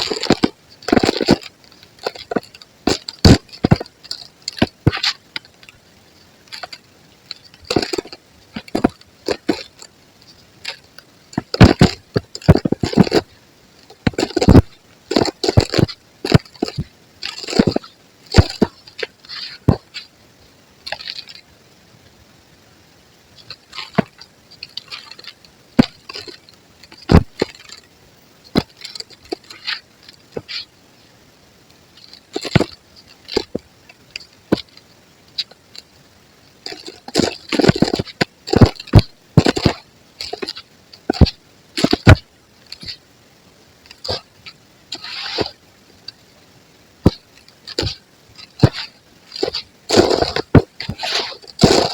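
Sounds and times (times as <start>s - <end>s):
concrete crunching and cracking: 0.0s - 20.2s, 20.8s - 21.6s, 23.4s - 30.8s, 31.6s - 43.1s, 43.8s - 46.2s, 47.0s - 51.9s.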